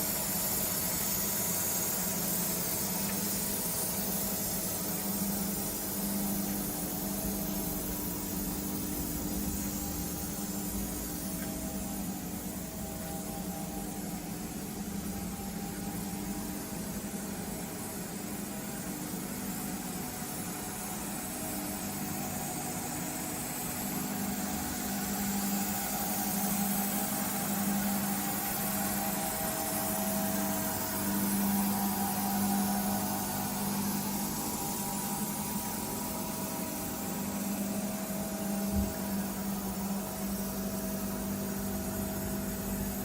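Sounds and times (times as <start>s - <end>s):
lathe machine hum: 0.0s - 43.0s.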